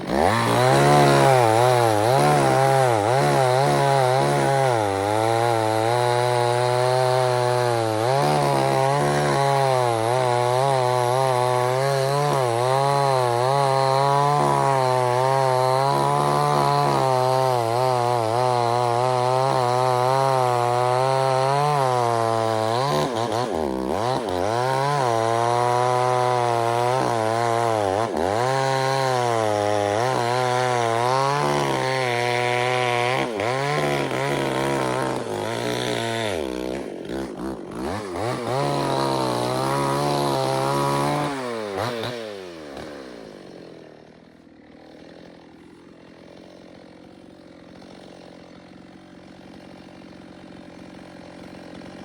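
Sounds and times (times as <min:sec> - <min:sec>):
chainsaw running: 0:00.0 - 0:52.0.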